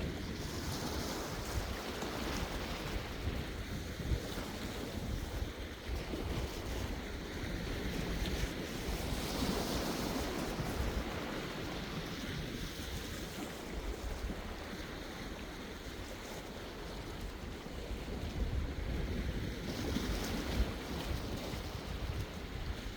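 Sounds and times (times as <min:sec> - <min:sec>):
sea waves breaking: 0:00.0 - 0:22.9
wind rumbling on microphone: 0:00.0 - 0:22.9.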